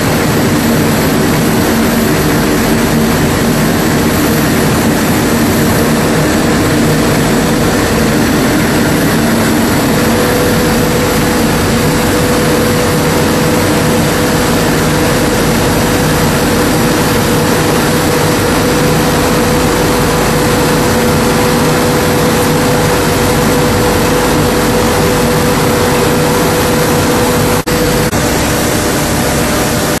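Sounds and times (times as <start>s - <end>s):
machinery din: 0.0s - 30.0s
steady machine whine: 0.0s - 30.0s.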